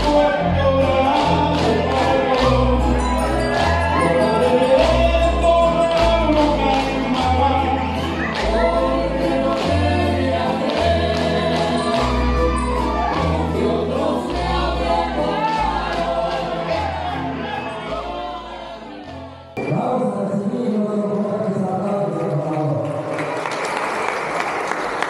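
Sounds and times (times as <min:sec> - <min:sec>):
folk music over loudspeakers: 0:00.0 - 0:23.1.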